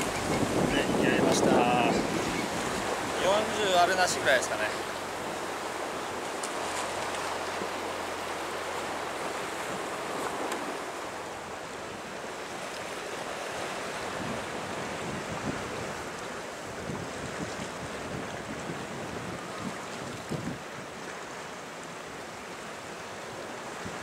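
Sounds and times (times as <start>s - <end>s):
wind blowing: 0.0s - 21.1s
surf washing against rocks: 0.0s - 24.0s.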